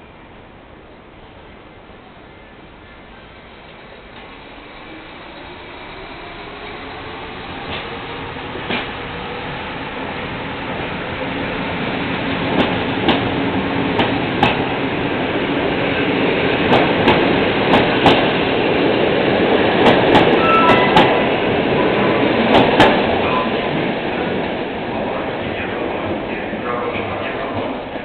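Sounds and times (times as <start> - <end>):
train rolling rumble: 0.0 - 28.0.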